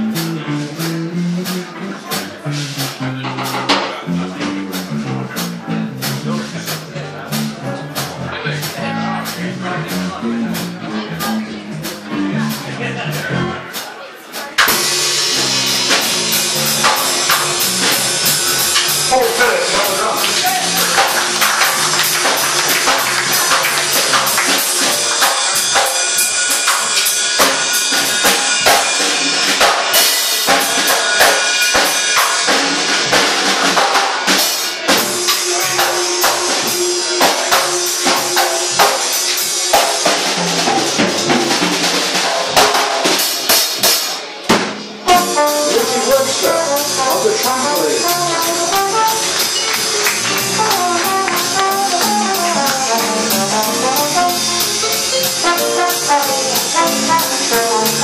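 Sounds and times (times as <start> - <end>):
brass playing melody: 0.0 - 8.4, 14.6 - 42.2, 45.0 - 58.0
drum kit with cymbals: 0.0 - 58.0.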